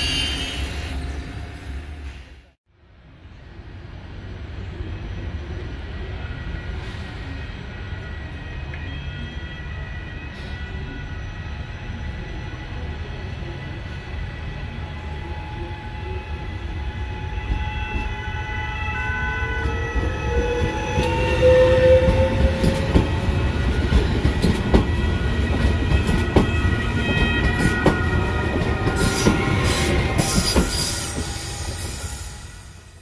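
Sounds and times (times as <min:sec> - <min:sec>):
train rumble with whining tones: 0:00.0 - 0:33.0.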